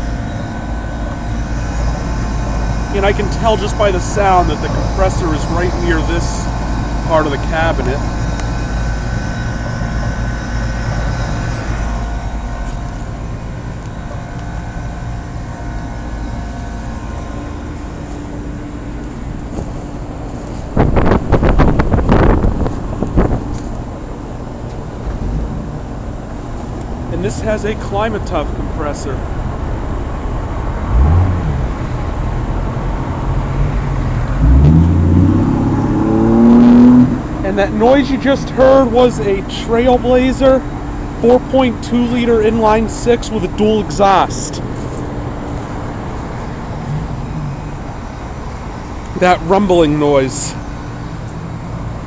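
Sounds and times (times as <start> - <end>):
compressor hum: 0.0 - 52.0
fan rushing air: 0.0 - 52.0
vehicle engine rumbling by: 0.0 - 52.0.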